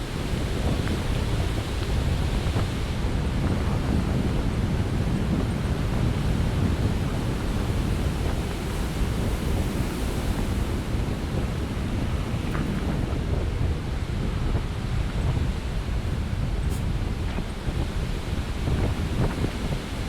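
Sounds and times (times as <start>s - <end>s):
heavy surf breaking: 0.0s - 20.0s
wind buffeting microphone: 0.0s - 20.0s.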